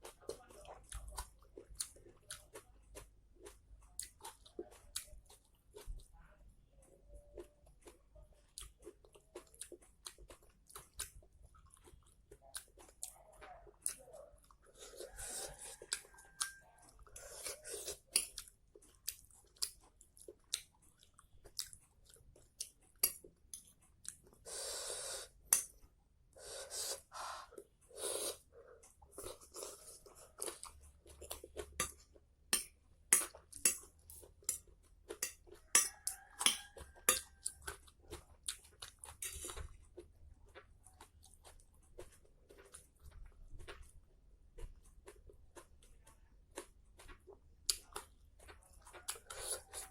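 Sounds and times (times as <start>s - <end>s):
chewing with mouth clicks: 0.0s - 6.1s, 6.8s - 49.9s.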